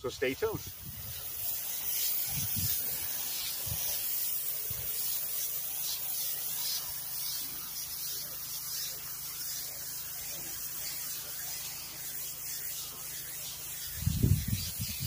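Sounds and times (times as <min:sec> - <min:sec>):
pressure washer spray hissing: 0:00.0 - 0:15.0.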